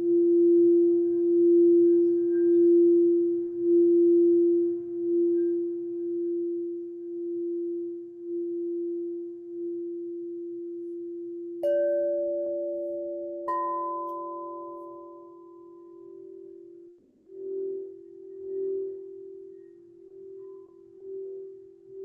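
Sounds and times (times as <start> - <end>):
higher-pitched bowl struck: 0.0 - 22.0
singing bowl ringing: 0.0 - 22.0.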